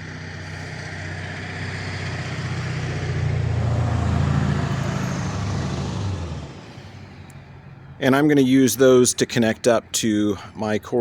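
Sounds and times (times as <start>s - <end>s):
vehicle passing on road: 0.0s - 9.9s.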